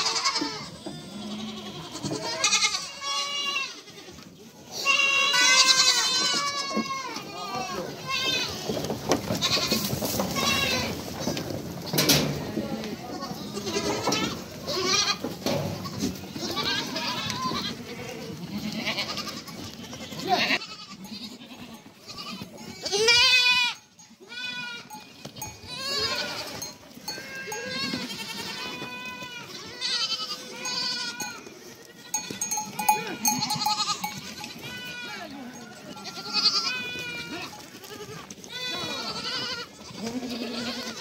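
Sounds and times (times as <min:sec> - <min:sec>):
goats bleating: 0:00.0 - 0:41.0.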